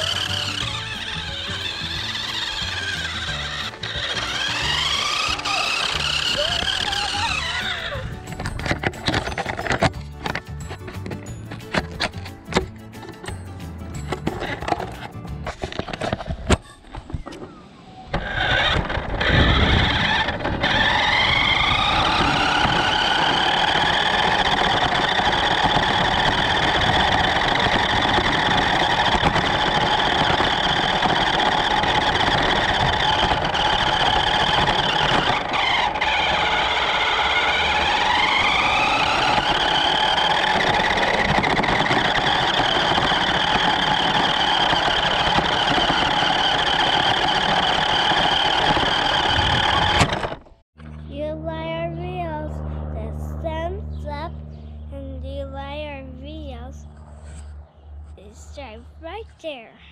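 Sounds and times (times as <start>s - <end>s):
toy car electric motor whining: 0.0s - 13.3s, 14.0s - 16.3s, 18.1s - 50.6s.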